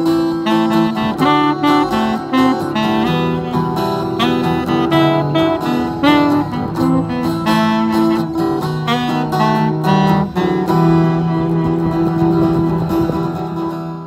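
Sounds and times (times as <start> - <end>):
saxophone: 0.0 - 14.0
strummed acoustic guitar: 0.0 - 14.0.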